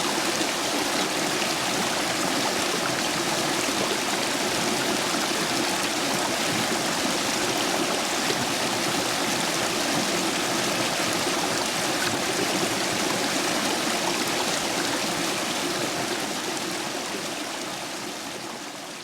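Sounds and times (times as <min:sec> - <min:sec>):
stream water rushing and splashing: 0:00.0 - 0:19.0.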